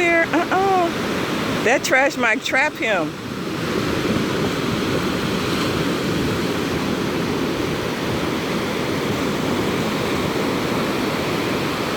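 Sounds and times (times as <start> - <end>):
surf breaking on beach: 0.0 - 11.9.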